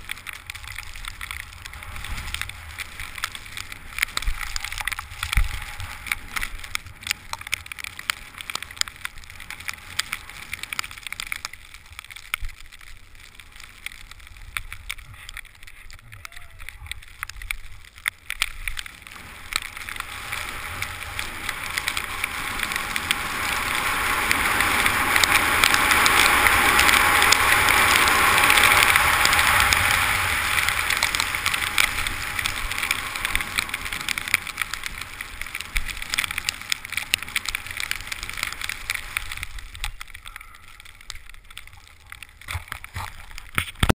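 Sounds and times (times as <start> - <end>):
skis sliding on snow: 0.0 - 43.9.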